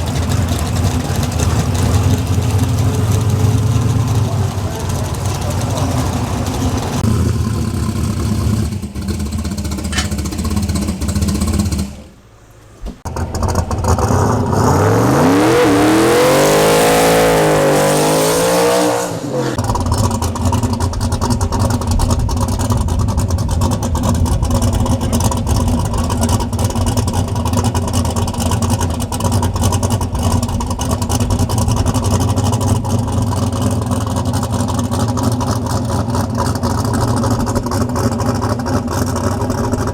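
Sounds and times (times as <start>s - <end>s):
drag car engine revving: 0.0s - 12.4s, 13.0s - 39.9s.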